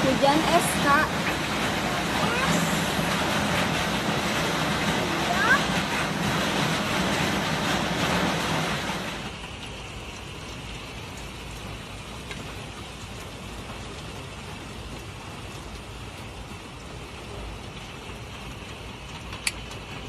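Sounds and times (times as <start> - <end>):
hailstones ticking: 0.0 - 20.0
heavy rain hissing: 0.0 - 20.0.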